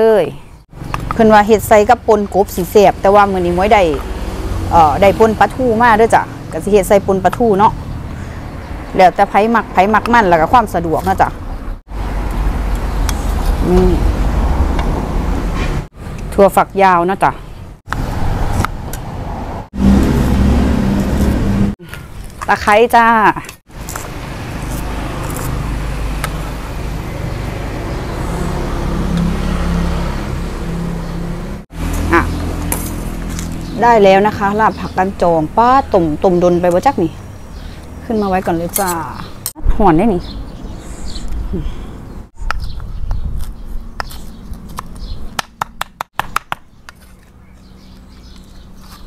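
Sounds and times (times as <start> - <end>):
vehicle engine rumble: 0.4 - 16.4, 17.4 - 22.6, 23.5 - 49.0.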